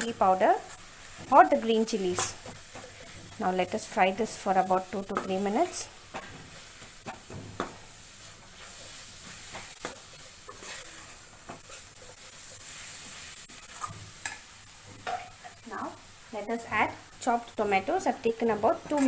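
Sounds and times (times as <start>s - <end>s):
spatula scraping the pan: 0.0s - 15.6s
masala sizzling in hot oil: 0.0s - 19.0s.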